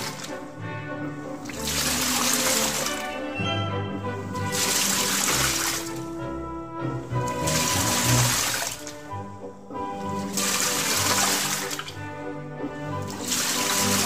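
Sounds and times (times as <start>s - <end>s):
background music: 0.0s - 14.0s
washing machine water swishing: 0.0s - 14.0s.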